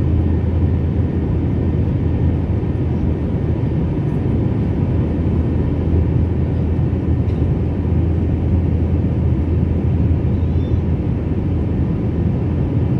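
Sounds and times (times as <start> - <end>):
airliner cabin engine rumble: 0.0 - 12.9.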